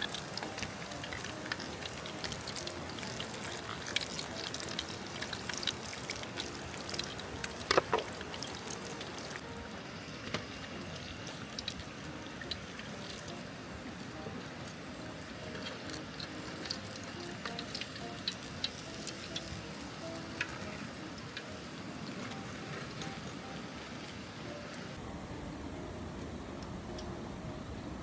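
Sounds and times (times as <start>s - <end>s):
food sizzling on a pan: 0.0s - 25.0s.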